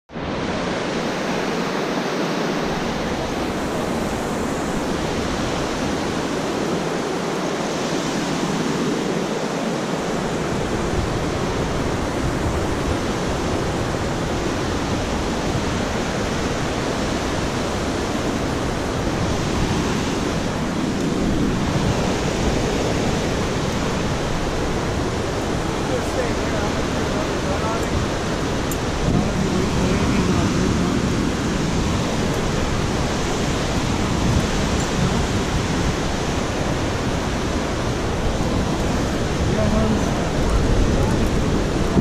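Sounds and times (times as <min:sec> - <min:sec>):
fast creek water rushing: 0:00.1 - 0:42.0.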